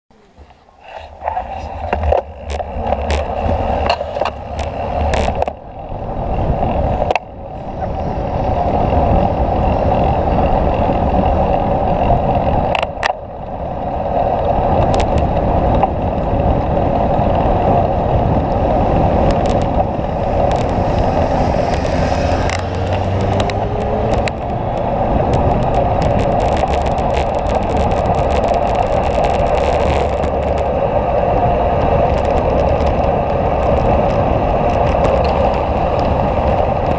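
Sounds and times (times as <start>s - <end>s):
road noise: 0.1s - 36.9s
wind rushing over microphone: 0.2s - 36.9s
motorcycle engine running: 2.2s - 36.9s.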